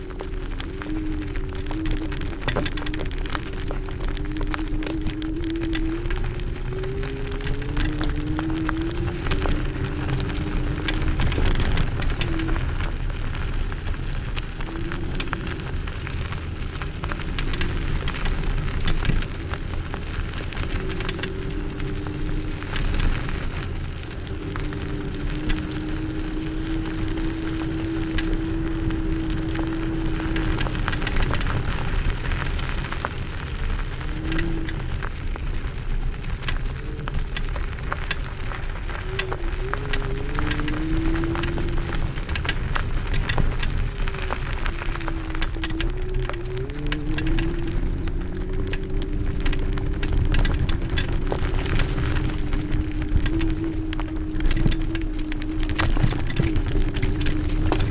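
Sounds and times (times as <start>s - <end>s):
scooter rolling over gravel: 0.0s - 57.9s
wind on microphone: 0.0s - 57.9s.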